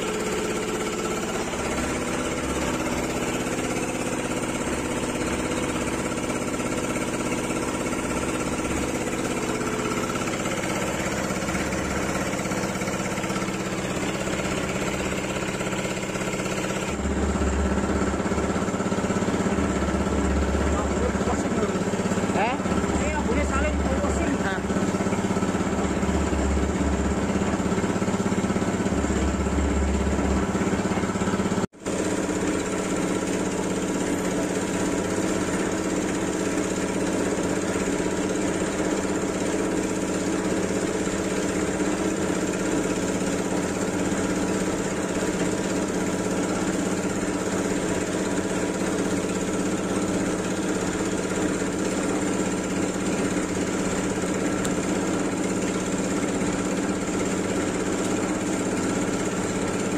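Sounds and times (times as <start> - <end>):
motor running loudly: 0.0 - 59.9.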